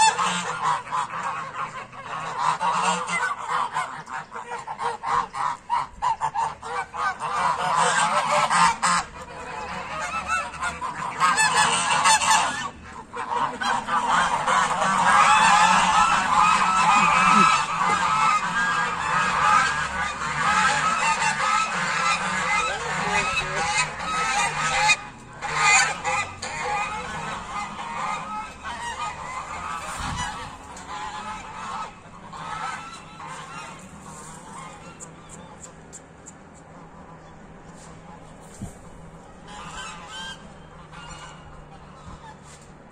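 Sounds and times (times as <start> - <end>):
geese honking: 0.0 - 42.9.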